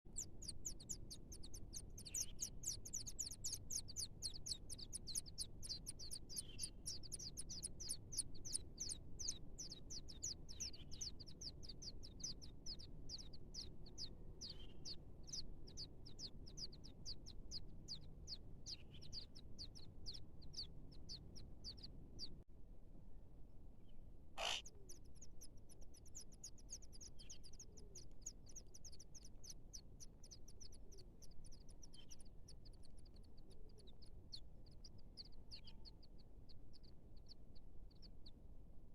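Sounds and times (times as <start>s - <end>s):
small bird chirping rapidly: 0.0s - 22.4s, 23.8s - 38.9s.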